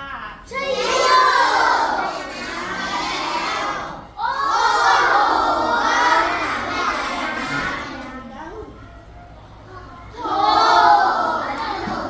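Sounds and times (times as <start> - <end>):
children reading aloud in unison: 0.0 - 12.0.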